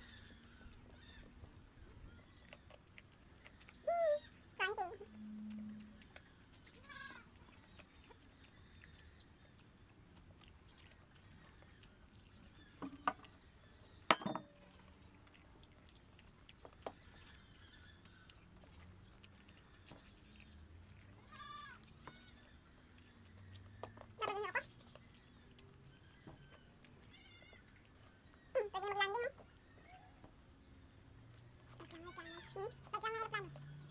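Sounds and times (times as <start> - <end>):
faint background noise: 0.0 - 33.9.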